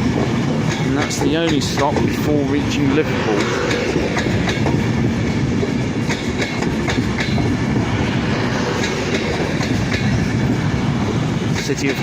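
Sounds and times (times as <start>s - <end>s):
train rumble: 0.0s - 12.0s
train wheels clicking: 0.0s - 12.0s.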